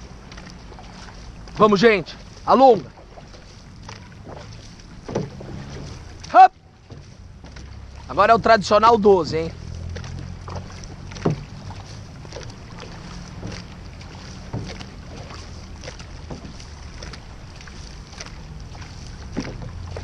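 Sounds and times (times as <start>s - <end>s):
paddles splashing in water: 0.0s - 20.0s.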